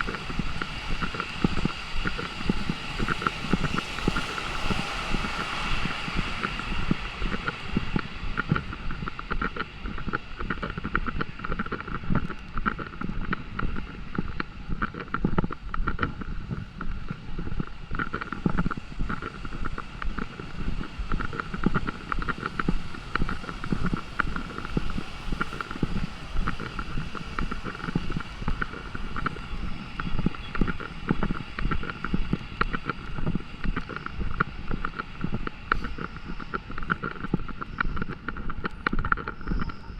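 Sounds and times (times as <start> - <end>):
rain pattering: 0.0 - 39.9
wind buffeting microphone: 0.0 - 39.9.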